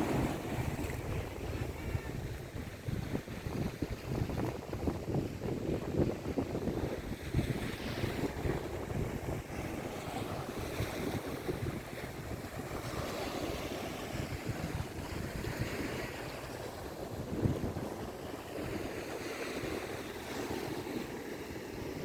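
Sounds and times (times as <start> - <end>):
waves breaking on a beach: 0.0 - 22.0
wind buffeting microphone: 0.0 - 22.0.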